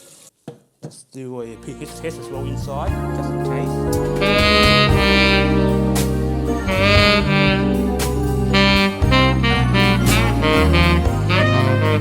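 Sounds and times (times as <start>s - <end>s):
steady bass: 1.6s - 12.0s
jazzy saxophone: 1.8s - 12.0s.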